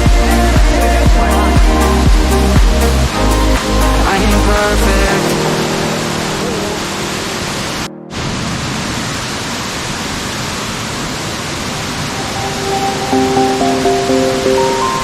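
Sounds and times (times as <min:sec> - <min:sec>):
waterfall roaring: 0:01.7 - 0:15.0.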